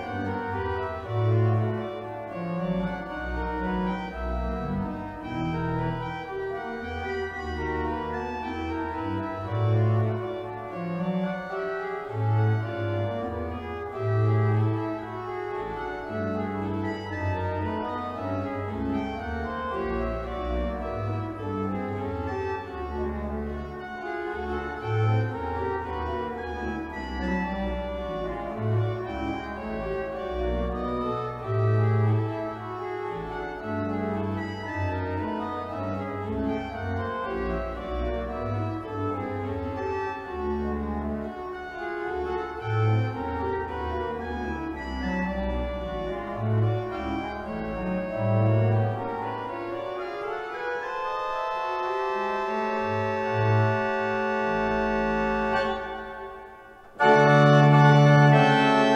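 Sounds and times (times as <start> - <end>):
church pipe organ playing: 0.0 - 58.9.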